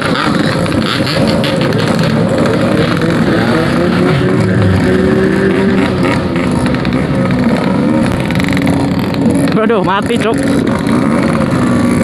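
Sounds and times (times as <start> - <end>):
two-stroke motorcycle engines revving: 0.0 - 12.0.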